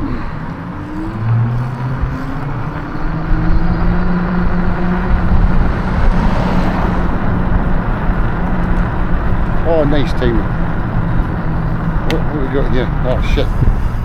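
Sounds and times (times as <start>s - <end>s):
electric motor hum: 0.0s - 14.0s
wind rushing over microphone: 0.0s - 14.0s.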